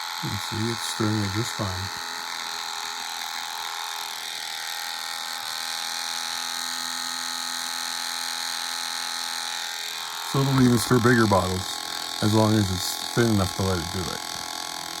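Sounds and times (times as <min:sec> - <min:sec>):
electric paint stirrer whirring: 0:00.0 - 0:15.0.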